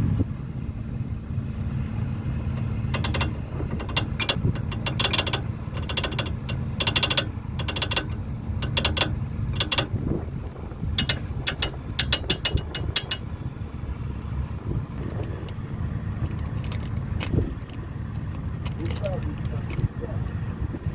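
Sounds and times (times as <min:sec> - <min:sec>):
low car rumble: 0:00.0 - 0:20.9
brake pads rattling: 0:01.6 - 0:20.8.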